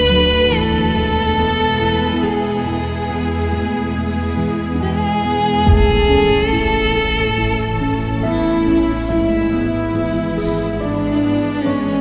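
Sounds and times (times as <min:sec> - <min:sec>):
soft sustained chords: 0:00.0 - 0:12.0.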